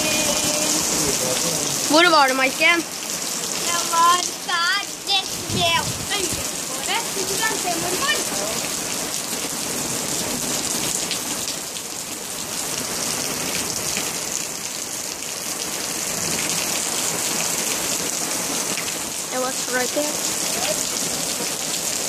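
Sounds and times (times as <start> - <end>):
rain hissing on ground and roof: 0.0 - 22.0.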